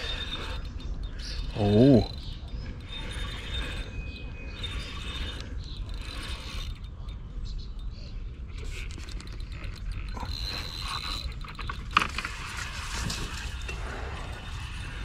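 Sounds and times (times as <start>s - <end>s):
fishing reel clicking and whirring: 0.0s - 15.0s.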